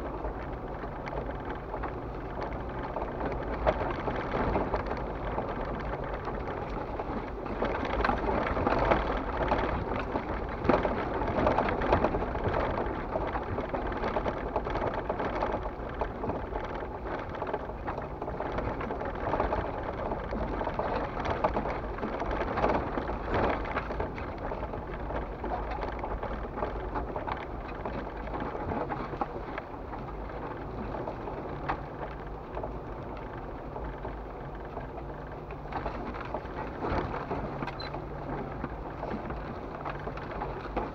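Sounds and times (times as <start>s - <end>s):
engine hum: 0.0s - 40.9s
tyres crackling on gravel: 0.0s - 40.9s.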